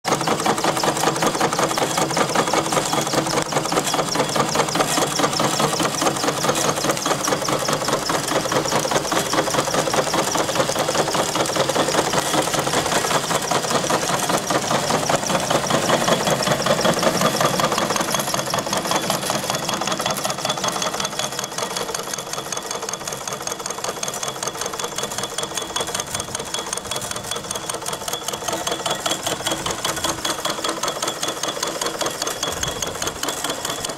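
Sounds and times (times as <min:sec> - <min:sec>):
steam engine chuffing and clattering: 0:00.0 - 0:33.9.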